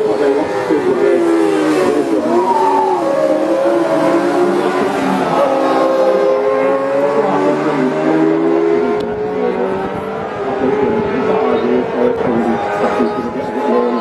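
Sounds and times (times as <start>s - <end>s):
racing engines at high revs: 0.0s - 14.0s.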